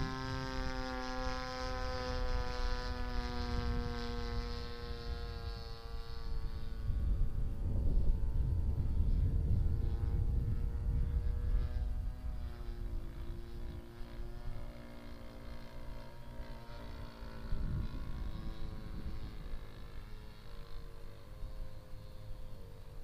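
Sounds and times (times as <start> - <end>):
model airplane motor droning: 0.0 - 23.0
wind rumbling on microphone: 0.0 - 23.0.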